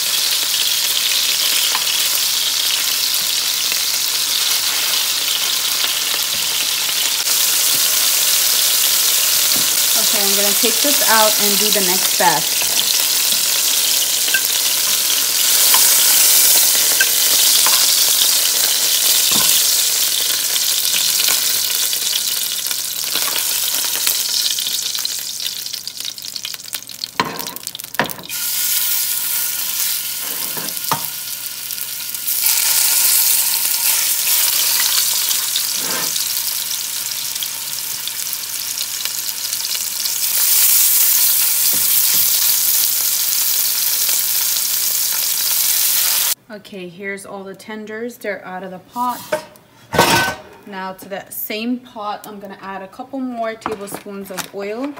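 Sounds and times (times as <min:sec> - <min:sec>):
food sizzling in hot oil: 0:00.0 - 0:46.4.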